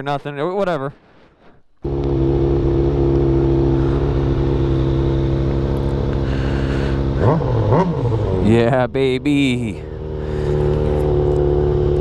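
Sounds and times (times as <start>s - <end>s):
motorcycle engine idling: 1.8s - 12.0s.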